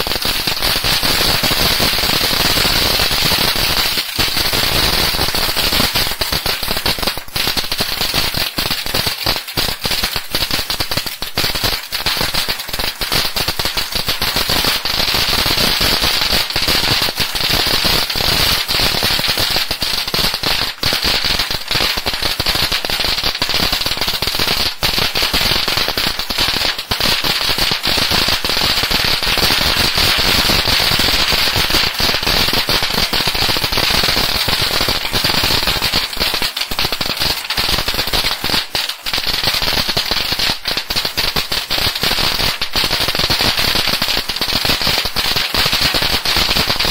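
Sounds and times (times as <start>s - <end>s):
firework crackling sparks: 0.0s - 46.9s.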